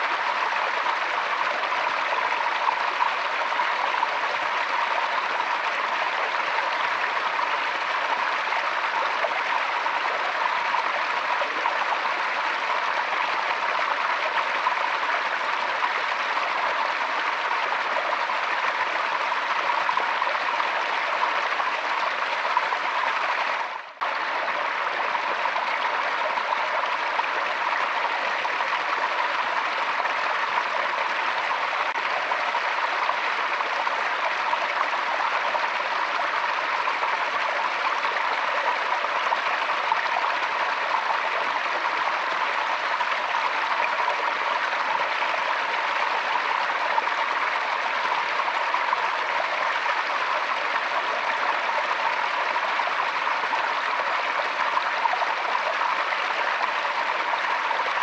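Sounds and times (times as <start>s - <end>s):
forest stream flowing: 0.0s - 58.0s.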